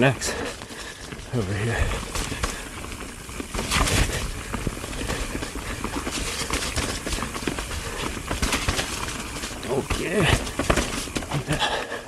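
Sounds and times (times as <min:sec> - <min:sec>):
bike clicks and rattles: 0:00.0 - 0:12.0
bike tyres on dirt and snow: 0:00.0 - 0:12.0.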